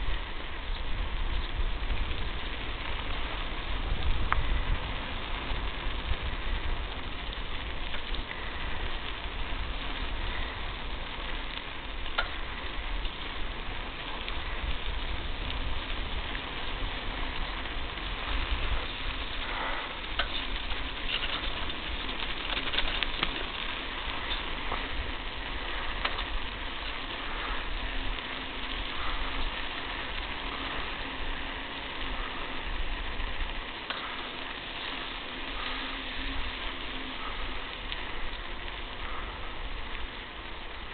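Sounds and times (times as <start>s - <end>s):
tyres rolling over gravel: 0.0s - 40.9s.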